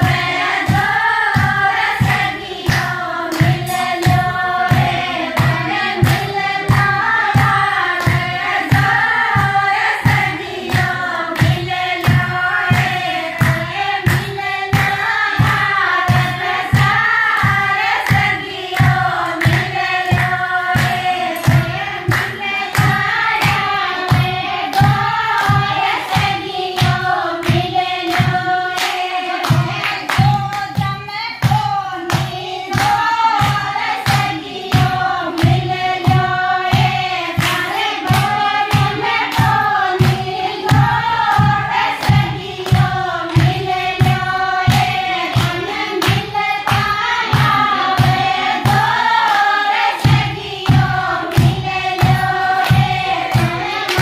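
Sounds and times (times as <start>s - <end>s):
steady beat: 0.0s - 54.0s
women singing together: 0.0s - 54.0s.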